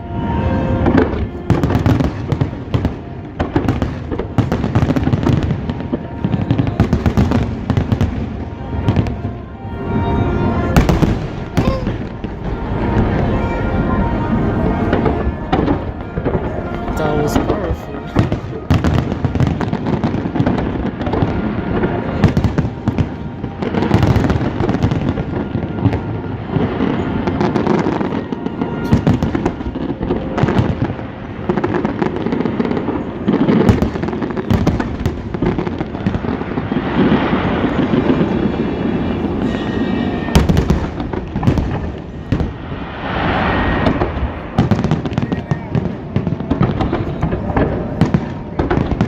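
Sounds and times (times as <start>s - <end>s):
firework bursts and crackling bangs: 0.0s - 49.0s.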